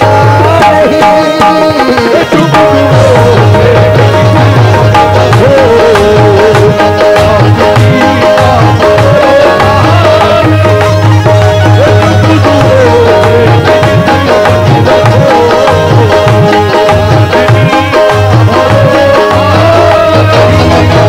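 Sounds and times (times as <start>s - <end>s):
electronic keyboard melody: 0.0s - 21.0s
hand drum rhythm: 0.0s - 21.0s.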